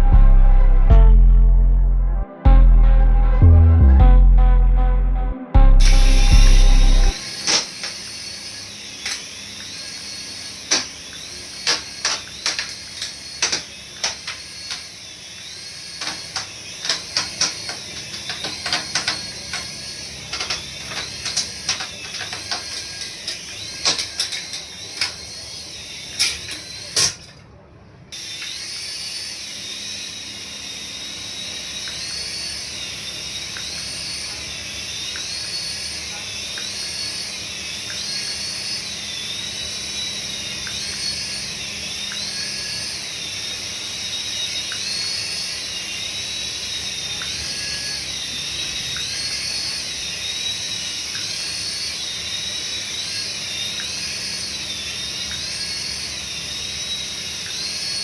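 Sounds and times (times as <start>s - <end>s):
small electric motor whirring: 5.8s - 27.4s, 28.1s - 58.0s.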